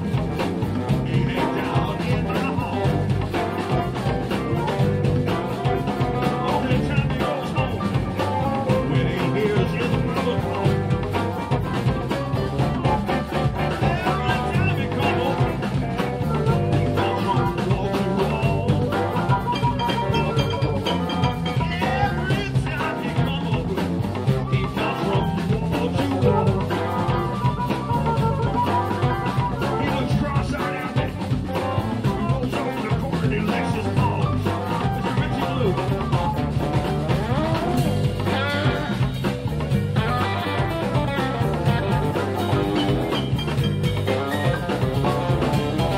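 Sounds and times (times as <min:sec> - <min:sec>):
electric blues band playing: 0:00.0 - 0:45.9
electric guitar bending lead line: 0:00.0 - 0:45.9.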